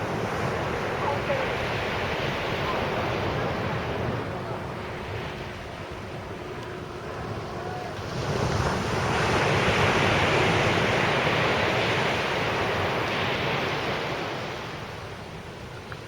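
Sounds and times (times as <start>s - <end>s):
wave breaking on beach: 0.0s - 5.8s, 7.1s - 15.5s.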